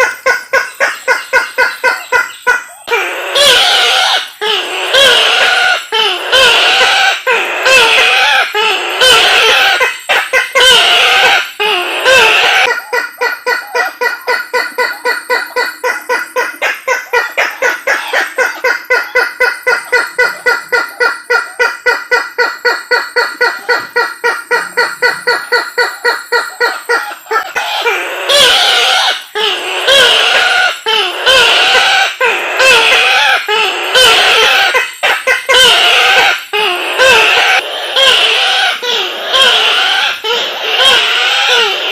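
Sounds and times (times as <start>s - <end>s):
bush-hen calling: 0.0s - 41.9s
harsh wavering cackling calls: 0.0s - 41.9s
rapid repeated bird notes: 0.0s - 41.9s.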